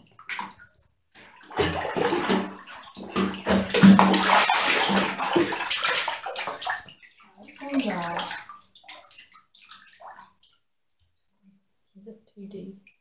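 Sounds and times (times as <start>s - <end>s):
ferret splashing in bathwater: 0.1s - 10.6s.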